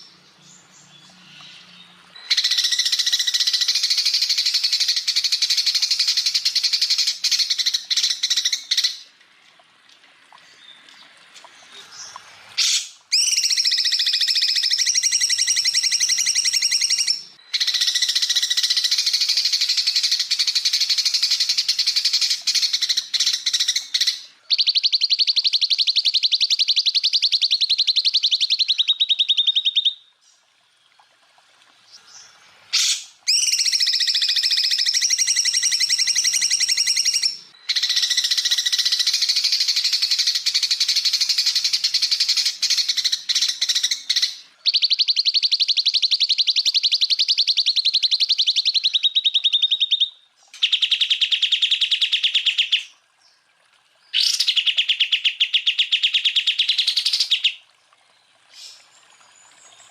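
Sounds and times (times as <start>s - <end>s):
bird singing fast phrases: 0.0s - 9.0s, 10.5s - 30.4s, 31.9s - 53.4s, 54.1s - 57.7s.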